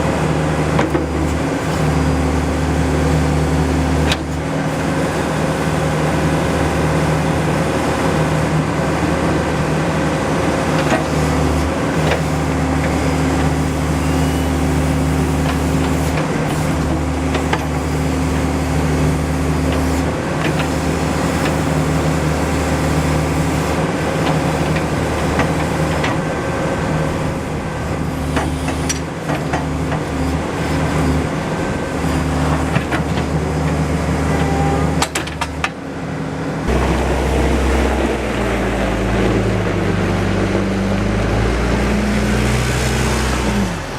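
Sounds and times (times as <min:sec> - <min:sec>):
backhoe diesel engine running: 0:00.0 - 0:43.9.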